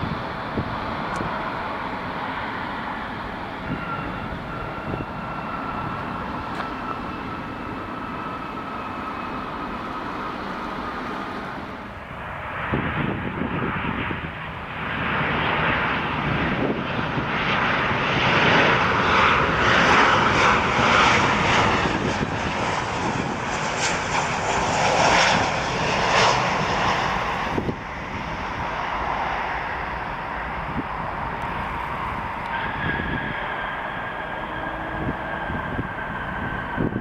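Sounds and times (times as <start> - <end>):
jet engines roaring past: 0.0 - 37.0.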